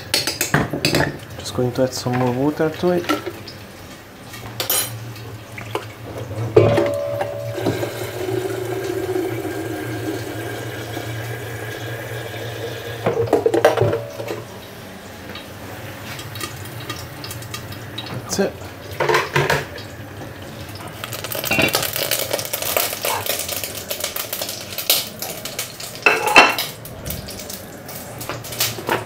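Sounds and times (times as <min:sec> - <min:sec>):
tap water running into kettle: 0:04.5 - 0:29.0.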